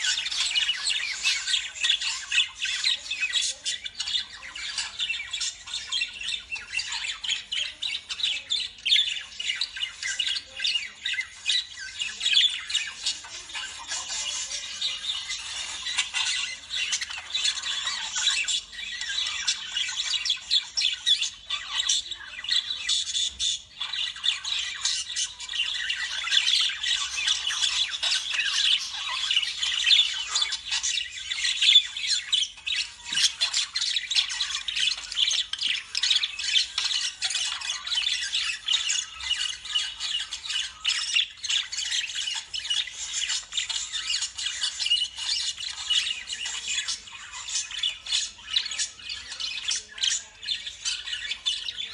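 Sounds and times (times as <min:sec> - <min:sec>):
lovebirds chattering and squawking: 0:00.0 - 0:51.9.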